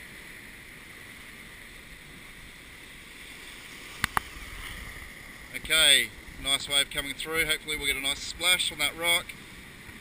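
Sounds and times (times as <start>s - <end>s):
ocean surf washing over rocks: 0.0s - 10.0s.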